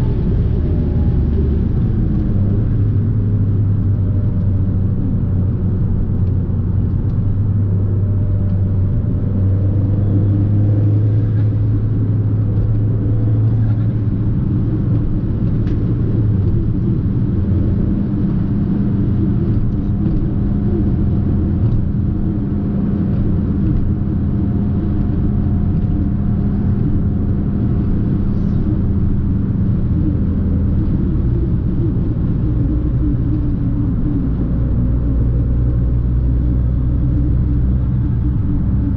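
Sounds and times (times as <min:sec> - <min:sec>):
car engine pulling steadily: 0:00.0 - 0:38.9
tyre and road noise: 0:00.0 - 0:38.9.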